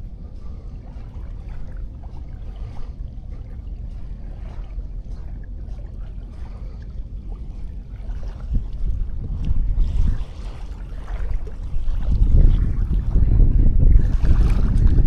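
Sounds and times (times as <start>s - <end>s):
faint sea waves on beach: 0.0s - 15.0s
wind rumbling on microphone: 0.0s - 15.0s.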